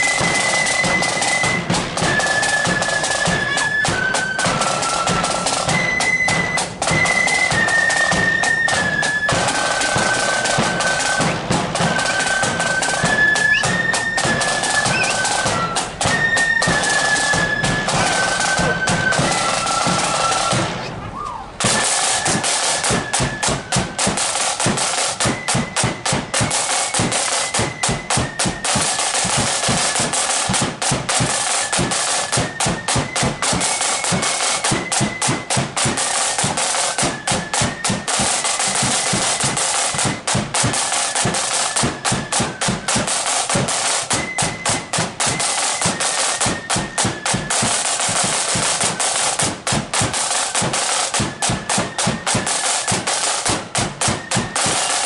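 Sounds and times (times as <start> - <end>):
high flute melody: 0.0 - 49.4, 50.0 - 55.0
snare drum rolls: 0.0 - 55.0.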